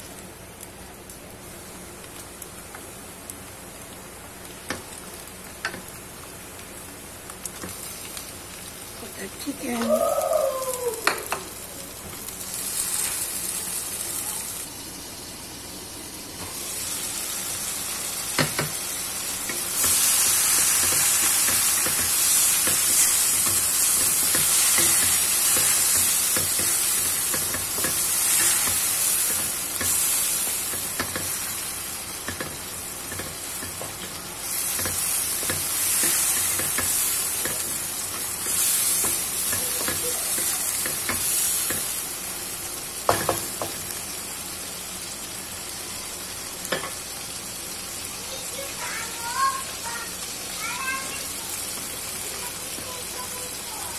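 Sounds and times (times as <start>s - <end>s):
chicken frying in oil: 0.0s - 53.9s.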